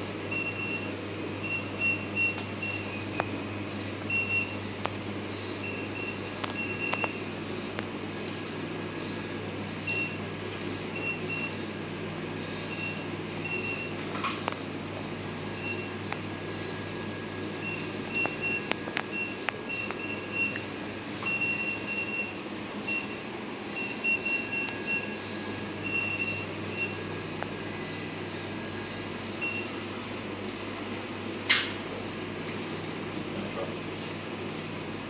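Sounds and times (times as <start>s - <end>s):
fan and refrigerator hum: 0.0s - 35.0s.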